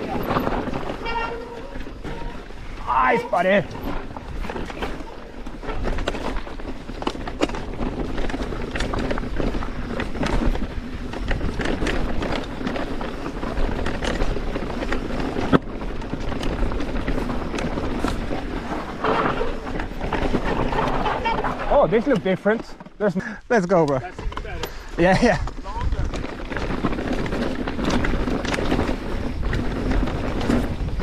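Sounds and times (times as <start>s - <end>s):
wind rumble on microphone: 0.0s - 21.7s, 24.0s - 31.0s
bike clicking and rattling: 0.0s - 31.0s
tyres crunching over stones: 0.0s - 31.0s.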